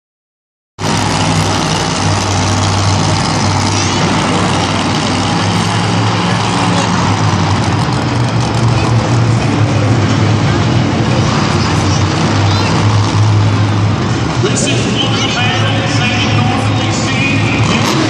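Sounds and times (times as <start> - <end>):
dense roar of noise: 0.8 - 18.0
monster truck engine drone: 0.8 - 18.0.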